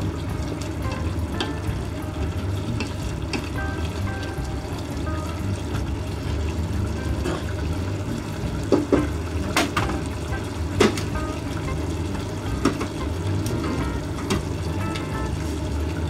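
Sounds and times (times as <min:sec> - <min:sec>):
sauce bubbling in pot: 0:00.0 - 0:16.0.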